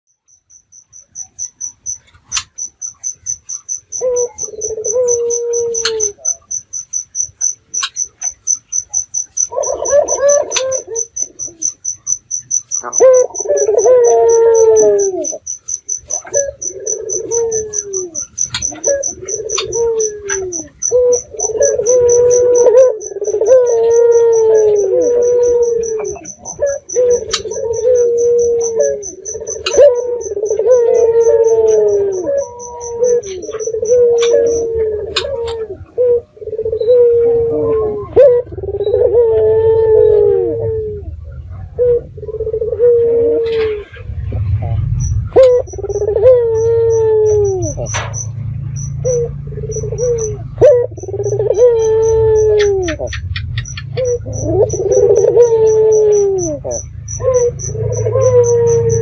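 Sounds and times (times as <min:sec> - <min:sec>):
cricket chirping: 0:00.1 - 0:59.0
dove cooing: 0:01.2 - 0:59.0.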